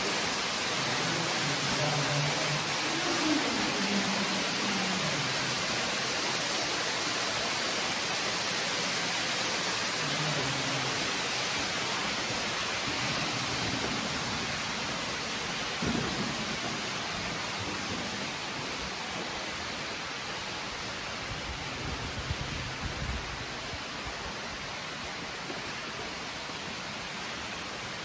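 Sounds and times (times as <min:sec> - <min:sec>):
water rushing through cave: 0:00.0 - 0:28.0.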